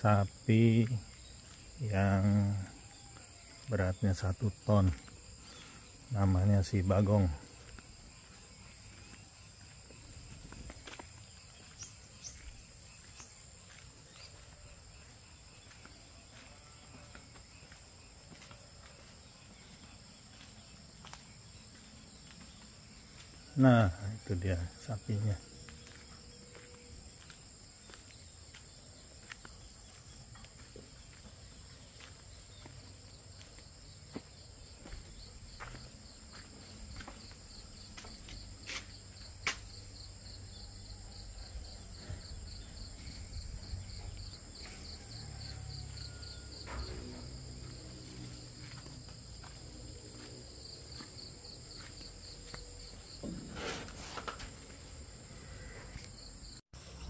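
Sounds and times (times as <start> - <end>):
pulsing insect trill: 0.0 - 53.6
insects chirping: 0.0 - 57.0.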